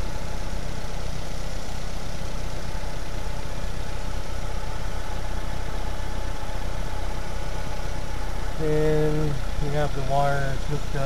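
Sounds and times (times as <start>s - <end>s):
car engine idling: 0.0s - 11.0s
faint steady whine: 0.0s - 11.0s.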